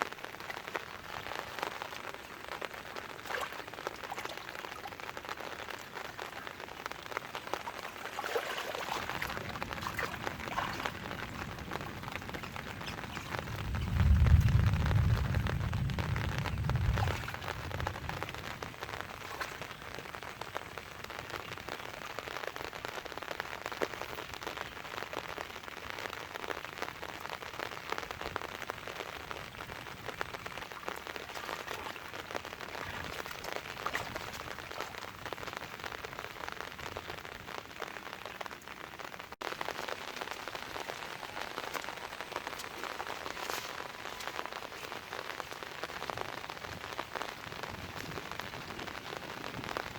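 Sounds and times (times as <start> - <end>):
rain pattering: 0.0 - 49.9.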